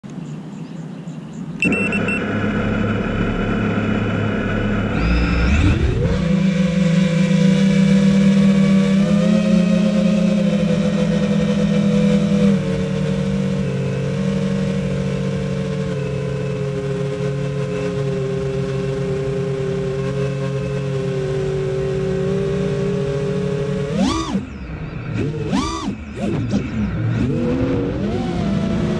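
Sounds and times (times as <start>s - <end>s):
quadcopter motors buzzing whine: 1.6s - 28.9s.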